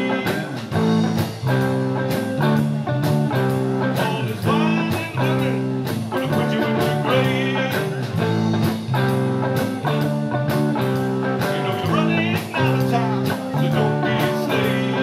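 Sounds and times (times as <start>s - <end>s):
bass guitar: 0.0s - 15.0s
drum kit: 0.0s - 15.0s
electric guitar riff: 0.0s - 15.0s.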